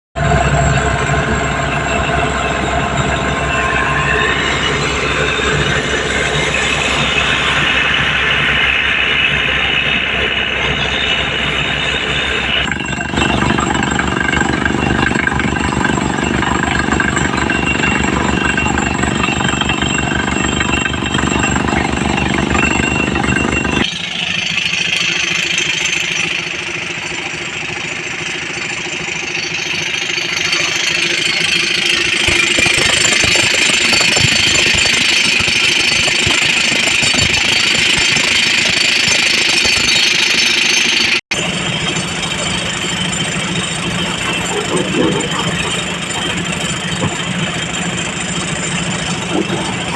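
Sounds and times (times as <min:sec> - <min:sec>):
heavy machinery rattling: 0:00.2 - 0:49.9.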